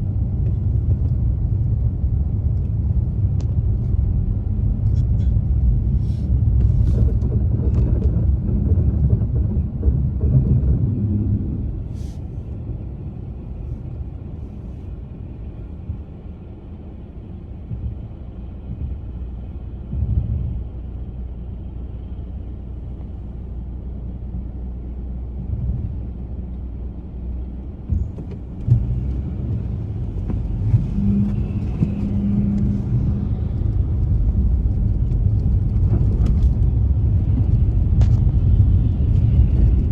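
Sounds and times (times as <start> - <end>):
car driving on snowy road: 0.0 - 39.9.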